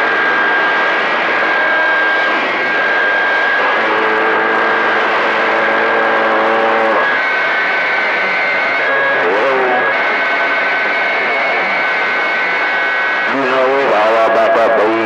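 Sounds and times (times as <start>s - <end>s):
buzzing hum with tones: 0.0s - 15.0s
radio static hiss: 0.0s - 15.0s.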